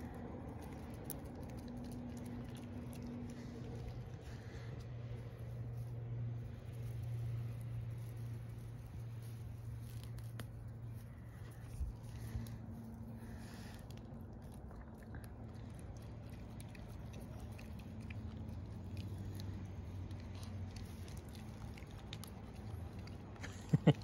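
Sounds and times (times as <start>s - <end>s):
dogs chewing flowers: 0.0s - 24.0s
low steady hum: 0.0s - 24.0s.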